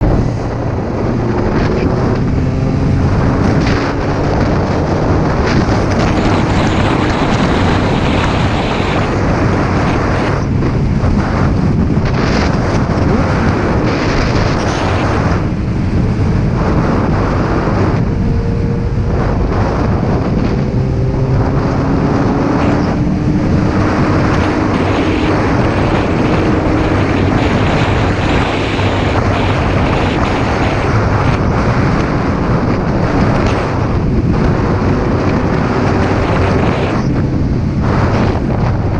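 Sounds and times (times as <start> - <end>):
motorcycle engine running: 0.0 - 8.9, 9.6 - 38.9
wind noise on microphone: 0.0 - 38.9.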